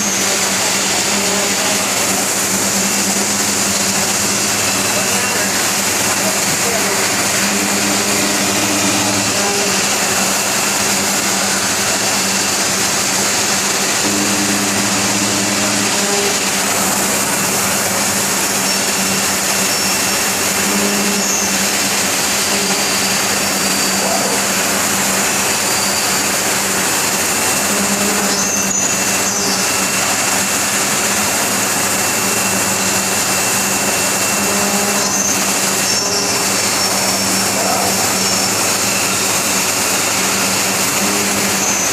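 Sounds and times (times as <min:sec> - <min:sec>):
low machine hum: 0:00.0 - 0:41.9
machine noise with spindle whine: 0:00.0 - 0:41.9.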